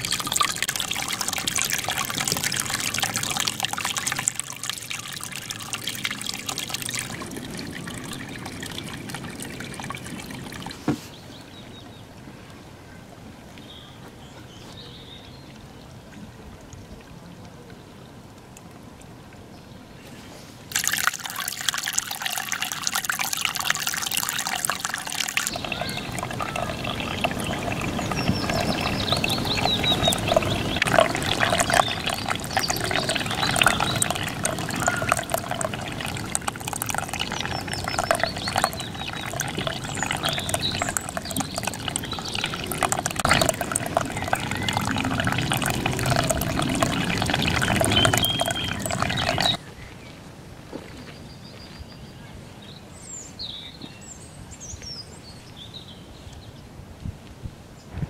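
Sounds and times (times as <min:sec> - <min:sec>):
stream trickling over stones: 0:00.0 - 0:20.0, 0:20.6 - 0:49.7.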